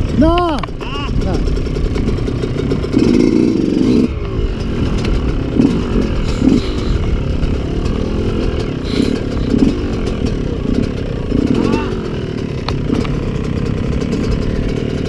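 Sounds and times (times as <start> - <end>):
dirt bike engines idling: 0.0 - 15.0.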